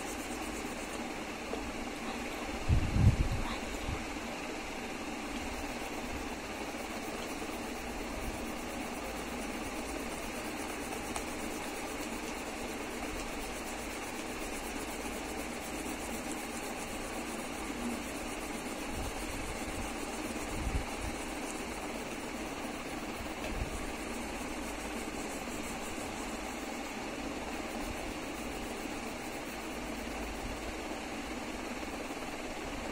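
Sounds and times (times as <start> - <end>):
mechanical hum and hiss: 0.0 - 32.9.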